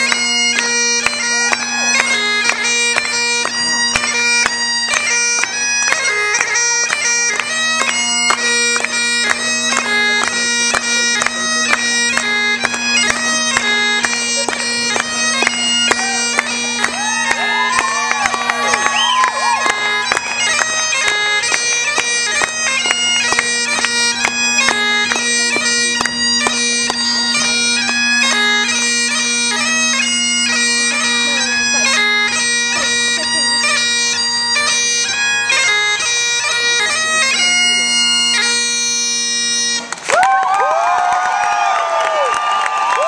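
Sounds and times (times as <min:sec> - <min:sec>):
bagpipe dance tune: 0:00.0 - 0:40.9.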